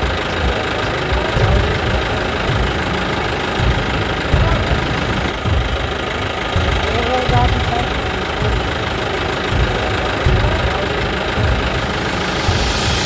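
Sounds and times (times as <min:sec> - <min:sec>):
engine running: 0:00.0 - 0:13.0
uneven low thumping: 0:00.1 - 0:13.0.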